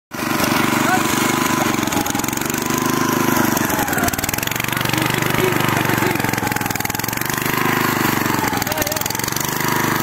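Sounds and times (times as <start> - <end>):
tractor engine running: 0.1 - 10.0.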